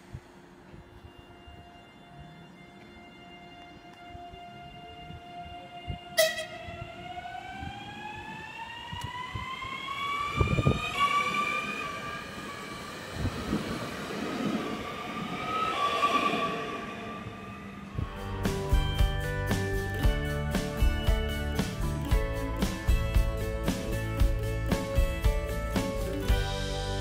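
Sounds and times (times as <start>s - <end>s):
electric train whine rising: 0.0s - 27.0s.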